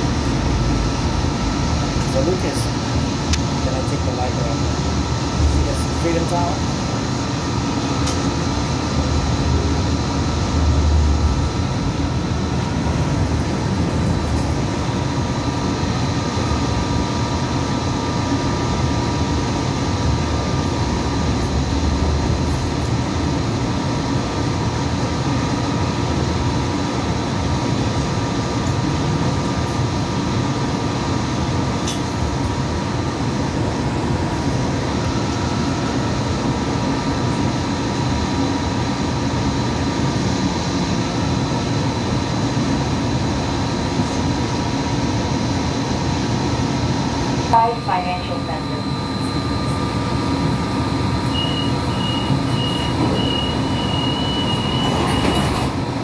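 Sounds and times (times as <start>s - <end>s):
constant high hum: 0.0s - 56.0s.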